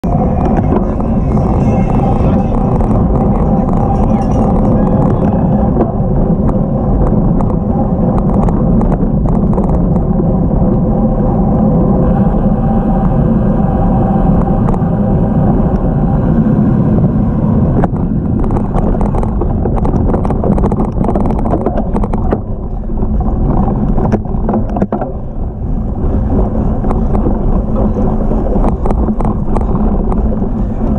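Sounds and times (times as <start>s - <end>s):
bike rattling over rough ground: 0.0s - 30.9s
tyres rolling on pavement: 0.0s - 30.9s
wind rushing over microphone: 0.0s - 30.9s.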